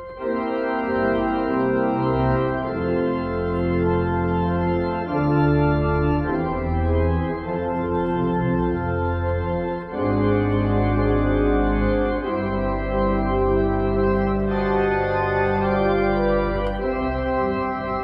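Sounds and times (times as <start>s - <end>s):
organ playing full chords: 0.0s - 18.0s.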